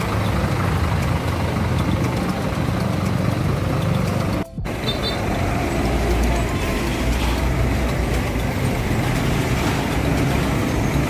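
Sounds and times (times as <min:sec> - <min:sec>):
bus diesel engine rumbling: 0:00.0 - 0:11.0
road traffic passing: 0:00.0 - 0:11.0.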